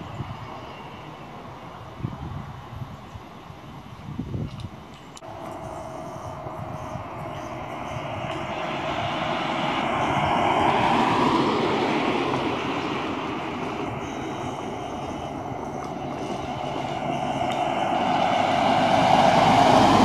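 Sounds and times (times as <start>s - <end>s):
bus passing by: 0.0s - 4.3s, 5.2s - 20.0s
road traffic noise: 0.0s - 20.0s.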